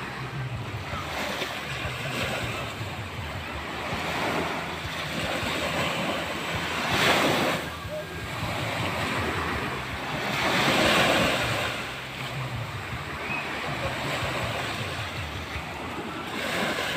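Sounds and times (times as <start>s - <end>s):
small waves breaking on a beach: 0.0s - 16.9s.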